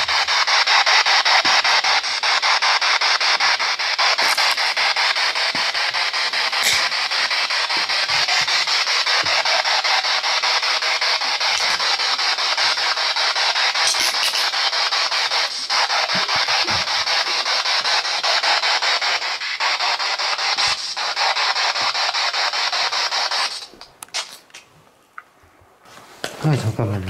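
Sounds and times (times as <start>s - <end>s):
chopped radio static hiss: 0.0s - 24.5s.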